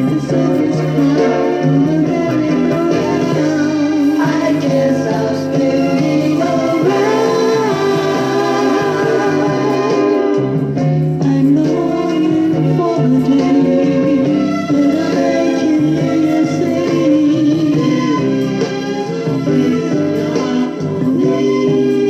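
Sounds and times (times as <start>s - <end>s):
backing band: 0.0s - 22.0s
voices singing together: 0.0s - 22.0s.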